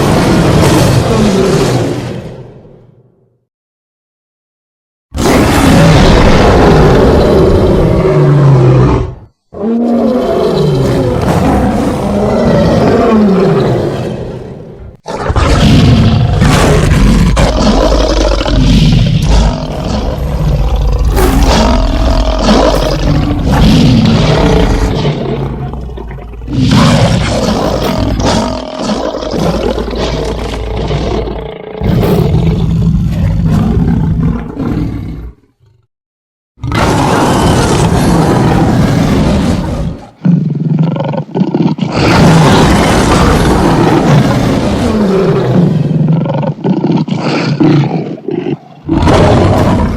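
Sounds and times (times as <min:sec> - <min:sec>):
lion roaring: 0:00.0 - 0:02.4, 0:05.2 - 0:35.8, 0:36.6 - 0:49.9.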